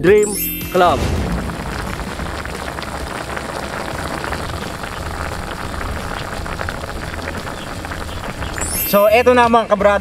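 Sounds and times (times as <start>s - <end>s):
sauce bubbles popping: 0.5s - 9.4s.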